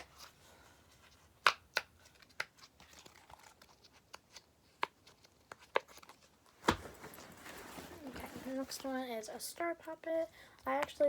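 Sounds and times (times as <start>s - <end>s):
crinkling: 0.0s - 9.0s.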